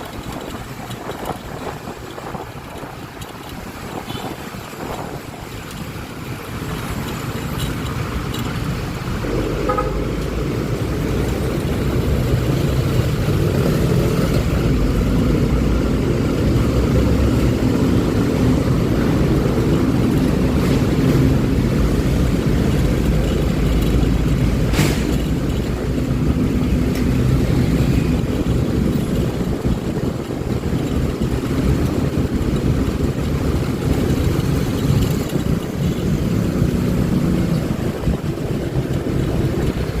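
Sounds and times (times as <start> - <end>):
scooter engine rumble: 0.0 - 40.0.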